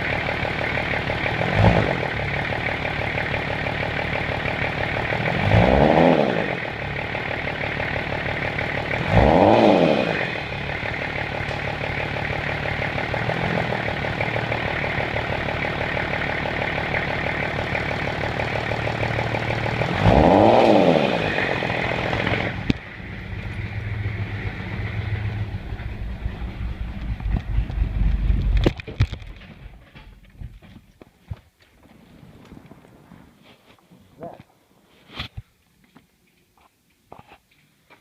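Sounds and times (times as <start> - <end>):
diesel engine running: 0.0 - 31.0
engine uneven rumble: 0.0 - 38.0.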